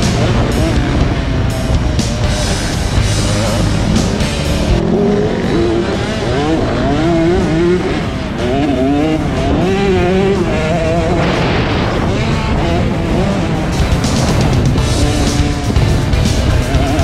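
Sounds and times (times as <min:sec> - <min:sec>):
background music: 0:00.0 - 0:17.0
motorbike engine revving: 0:00.0 - 0:17.0.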